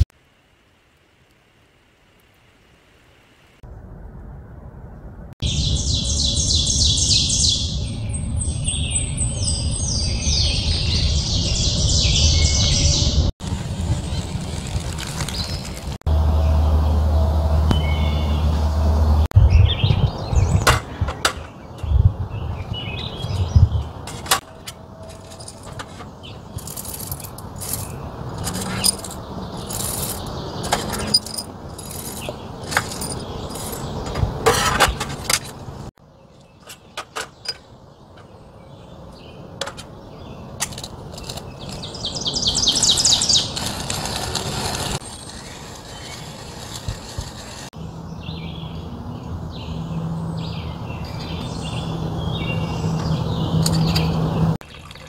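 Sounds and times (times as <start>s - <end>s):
birds chirping: 5.4s - 13.3s, 15.1s - 55.0s.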